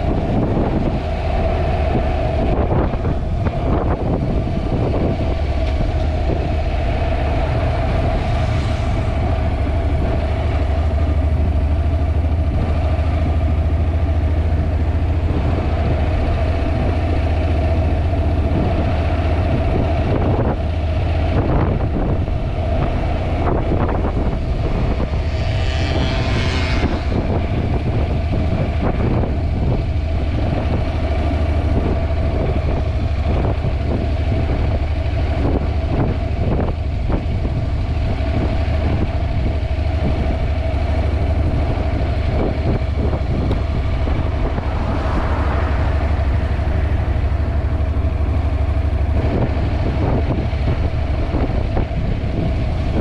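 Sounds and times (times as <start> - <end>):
motorcycle engine running: 0.0 - 53.0
wind buffeting microphone: 0.0 - 53.0.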